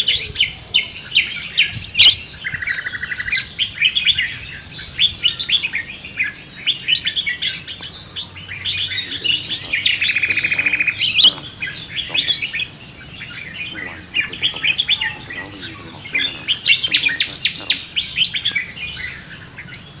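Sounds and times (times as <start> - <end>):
bird trill: 0.0 - 20.0
birds chirping and calling: 0.0 - 20.0
sharp high bird chirps: 0.9 - 20.0.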